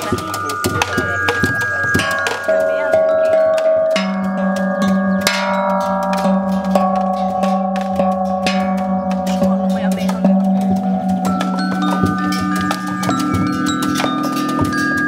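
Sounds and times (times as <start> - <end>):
metallophone ringing: 0.0 - 15.0
steel tongue drums struck: 0.0 - 15.0
strong low ringing tone: 0.0 - 15.0.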